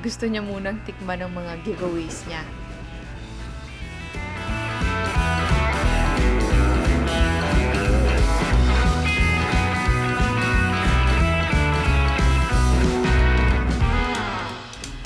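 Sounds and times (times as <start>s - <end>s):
rock music with electric guitar: 1.8s - 15.0s.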